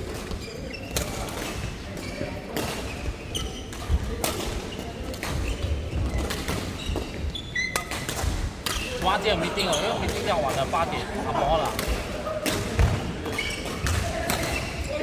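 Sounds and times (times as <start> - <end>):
shoe squeaks on court floor: 0.0 - 10.7, 13.2 - 15.0.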